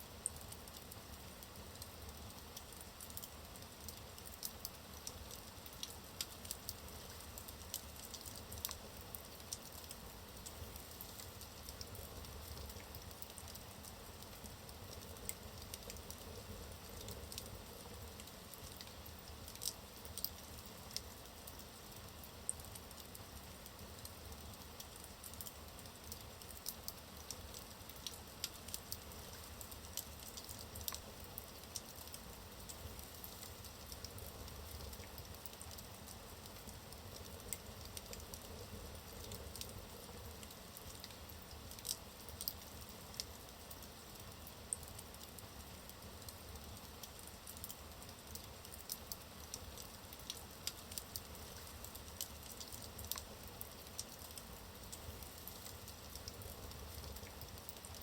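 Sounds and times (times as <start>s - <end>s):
fire rumble and hiss: 0.0s - 58.0s
wood crackling and popping: 0.2s - 58.0s.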